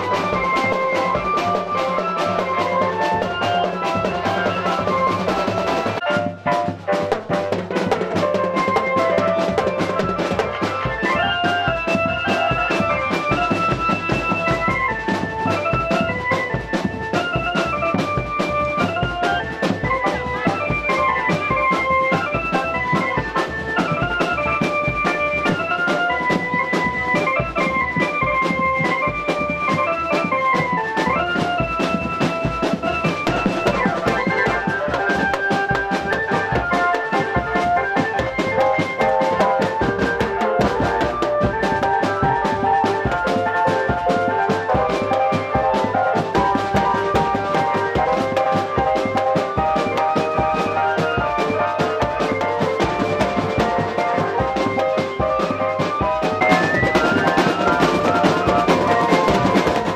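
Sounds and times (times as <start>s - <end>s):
keyboard organ melody: 0.0s - 59.9s
marching drums beating: 0.0s - 59.9s.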